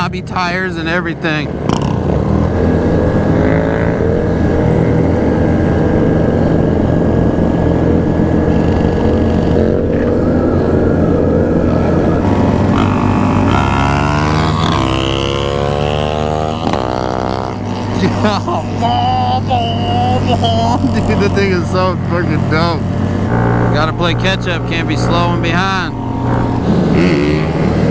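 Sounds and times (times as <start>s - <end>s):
motorcycle engine: 0.0s - 27.9s
motorcycles revving: 0.0s - 27.9s.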